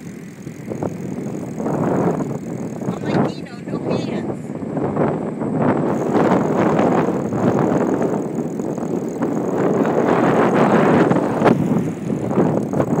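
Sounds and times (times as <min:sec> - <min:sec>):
bicycle riding on paved road: 0:00.0 - 0:13.0
bike rattle: 0:00.0 - 0:13.0
wind on microphone: 0:00.0 - 0:13.0.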